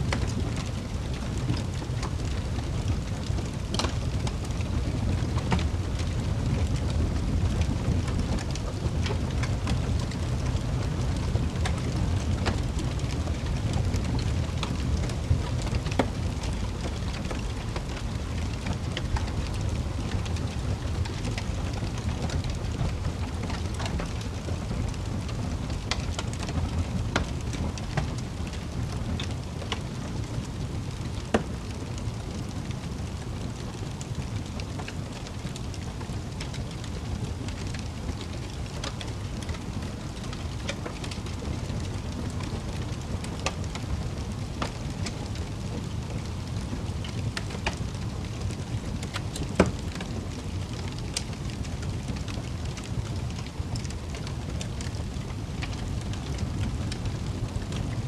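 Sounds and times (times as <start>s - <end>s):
wood fire crackling: 0.0s - 58.0s
fire pops and snaps: 0.1s - 58.0s.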